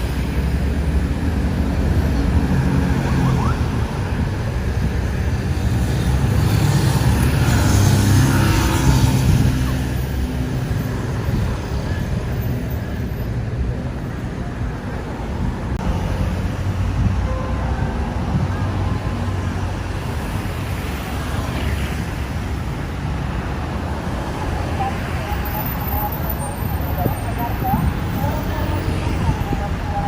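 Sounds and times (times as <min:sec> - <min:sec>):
road traffic rumbling: 0:00.0 - 0:30.0.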